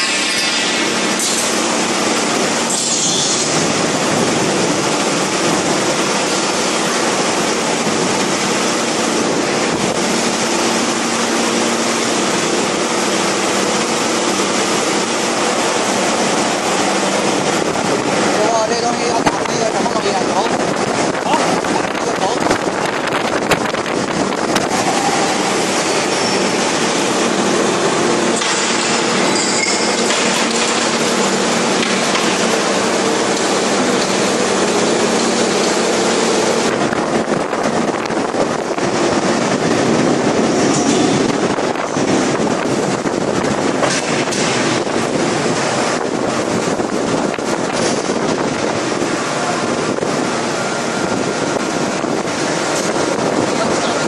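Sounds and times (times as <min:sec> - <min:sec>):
industrial forging press din: 0:00.0 - 0:54.0.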